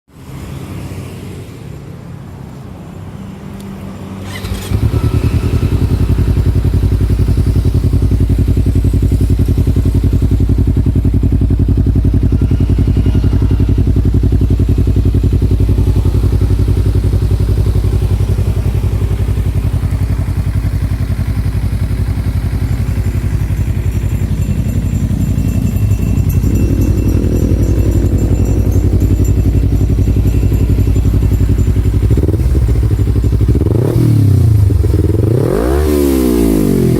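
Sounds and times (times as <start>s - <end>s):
motorcycle engine idling: 4.2s - 36.9s.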